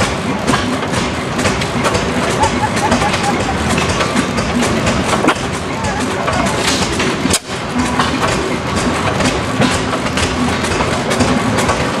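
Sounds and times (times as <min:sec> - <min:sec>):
stationary gas engine clattering: 0:00.0 - 0:12.0.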